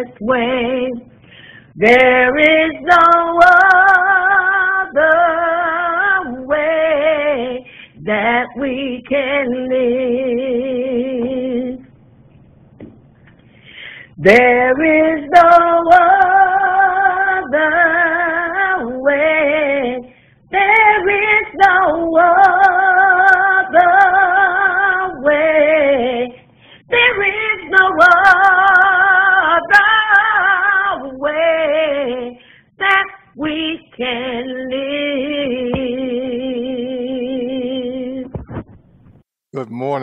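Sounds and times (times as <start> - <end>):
woman singing gospel: 0.0 - 1.1, 1.7 - 11.9, 14.2 - 38.3.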